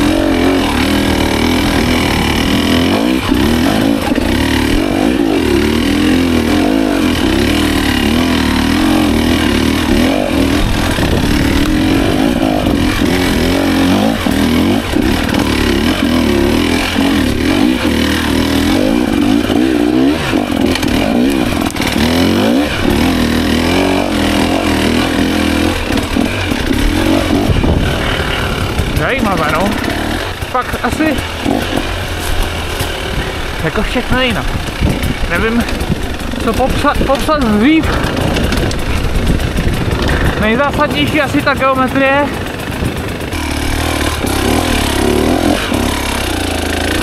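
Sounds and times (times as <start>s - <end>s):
two-stroke motorcycle engine revving: 0.0s - 47.0s.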